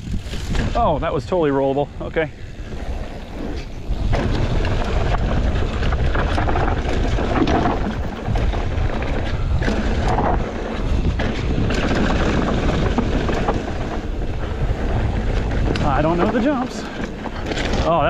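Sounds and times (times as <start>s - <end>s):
bike rattling over bumps: 0.0s - 18.0s
bike tyres rolling on rocky trail: 0.0s - 18.0s
wind rushing over microphone: 0.0s - 18.0s.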